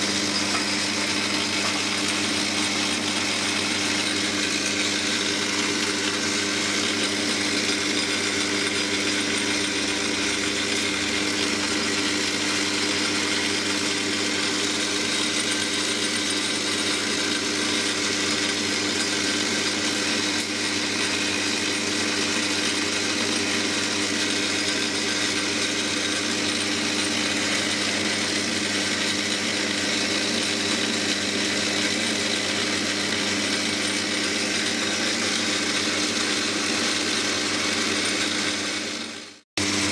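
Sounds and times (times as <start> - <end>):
metal lathe hum: 0.0 - 39.9.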